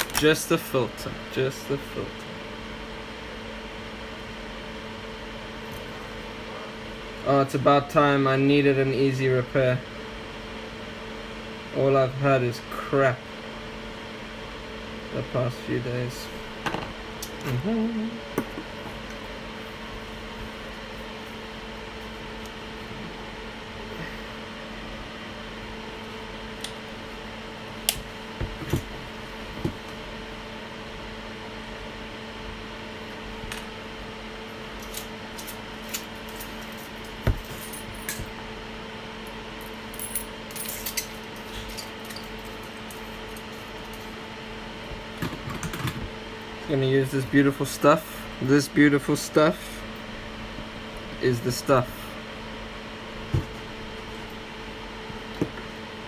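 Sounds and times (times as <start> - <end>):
electrical hum of equipment: 0.0 - 56.0.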